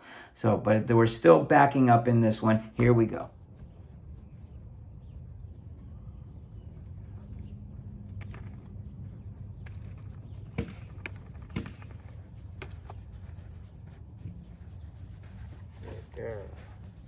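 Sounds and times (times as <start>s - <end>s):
steady low rumble: 3.2s - 17.0s.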